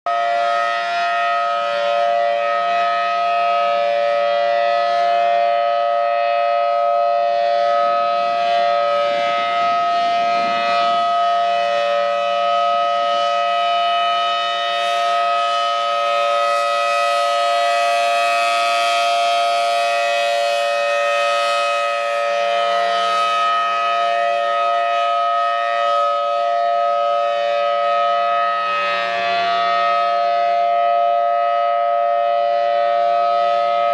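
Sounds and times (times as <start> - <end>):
outdoor warning siren steady tone: 0.1 - 33.9.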